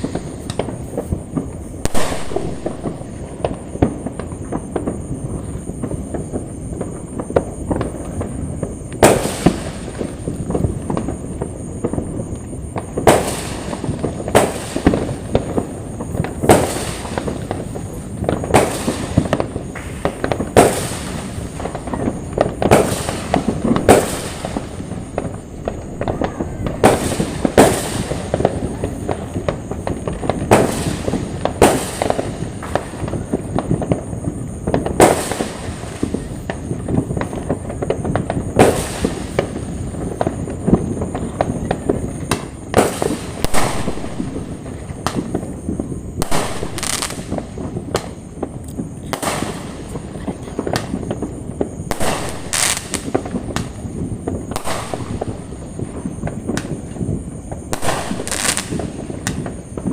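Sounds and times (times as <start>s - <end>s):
fireworks crackling and popping: 0.0s - 59.9s
loud firework bangs: 0.0s - 59.9s.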